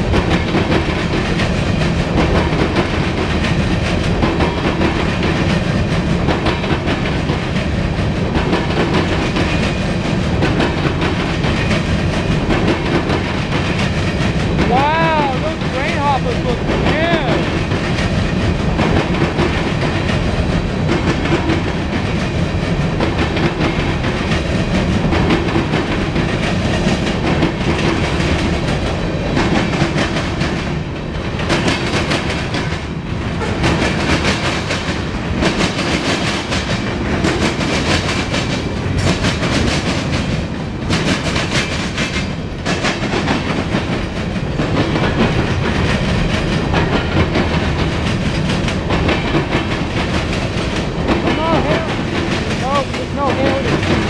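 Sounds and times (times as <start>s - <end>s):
steel wheels rolling on rail: 0.0s - 54.0s
wheels clacking over rail joints: 0.0s - 54.0s.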